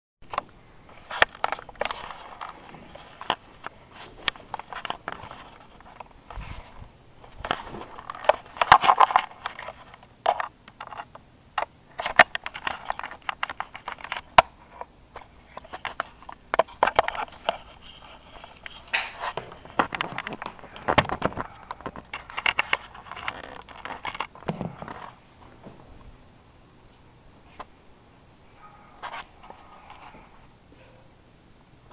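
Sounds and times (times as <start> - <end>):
clicks and scuffling: 0.2 - 26.1, 28.6 - 30.3.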